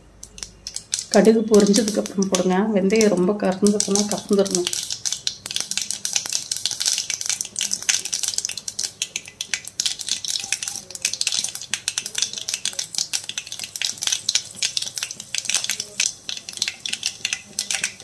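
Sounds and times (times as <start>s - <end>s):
oil sizzling: 0.0s - 18.0s
mustard seeds crackling: 0.2s - 18.0s.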